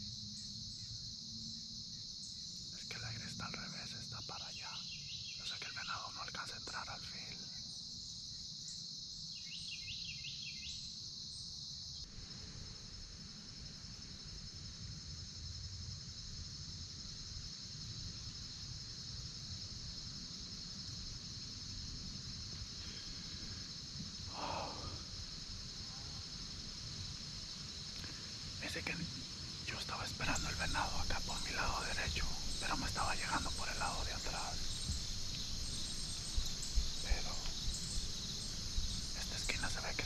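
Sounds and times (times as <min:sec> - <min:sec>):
insect chorus: 0:00.0 - 0:40.0.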